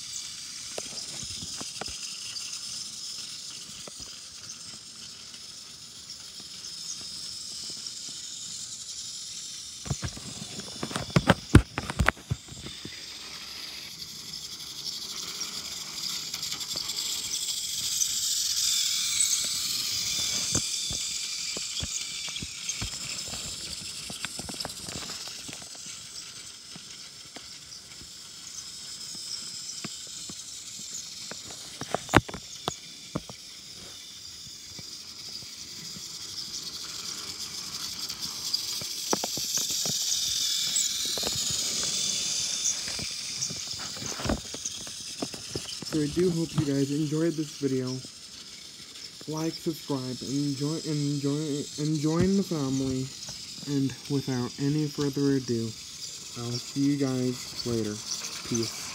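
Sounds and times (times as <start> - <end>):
sharp clicks and rattles: 0.0 - 58.9
toy train motor whirring: 0.0 - 58.9.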